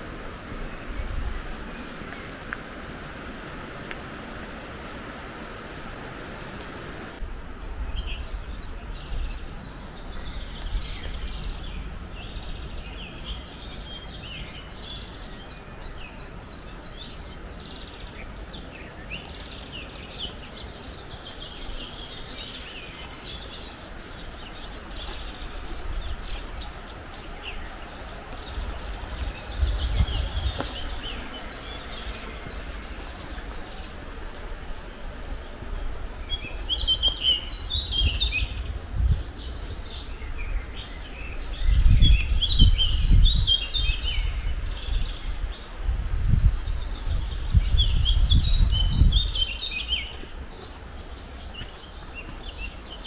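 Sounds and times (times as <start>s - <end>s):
songbirds chirping and twittering: 0.0s - 53.0s
steady outdoor hiss: 0.0s - 53.0s.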